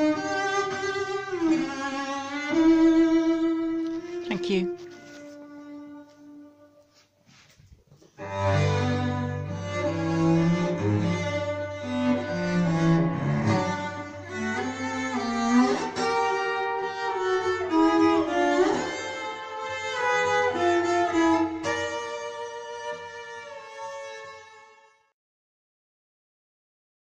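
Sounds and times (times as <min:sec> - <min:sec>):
bowed strings sustained notes: 0:00.0 - 0:06.8, 0:08.2 - 0:25.0.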